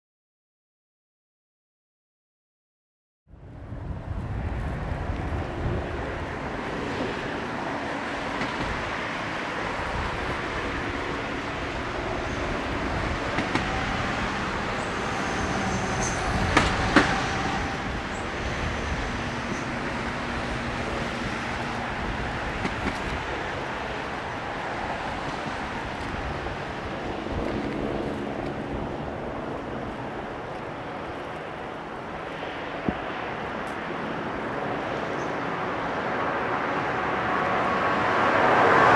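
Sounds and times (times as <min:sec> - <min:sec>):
jet engines at takeoff thrust: 0:03.4 - 0:38.9.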